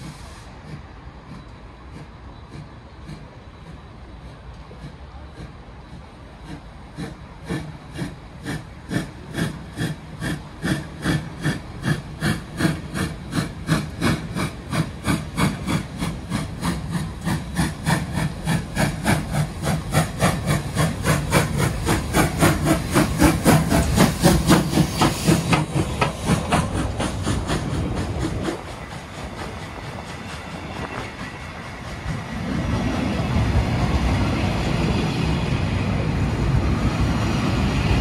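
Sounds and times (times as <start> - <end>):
steam locomotive chuffing: 0.0 - 38.0.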